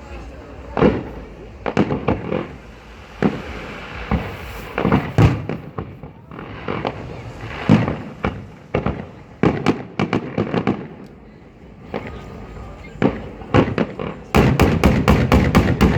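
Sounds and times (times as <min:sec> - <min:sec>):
fireworks bursting with bangs: 0:00.0 - 0:15.9
rumbling echo: 0:00.0 - 0:15.9.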